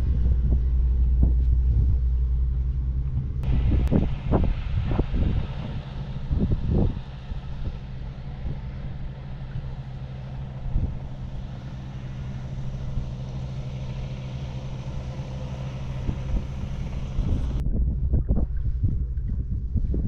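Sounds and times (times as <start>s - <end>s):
road traffic rumble: 0.0s - 17.6s.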